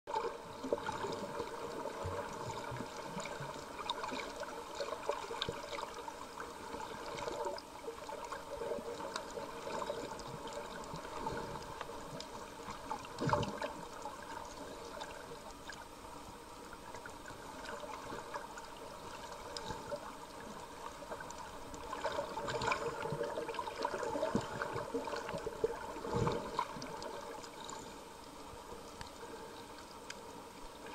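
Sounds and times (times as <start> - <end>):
underwater clicks and crackles: 0.1 - 30.9.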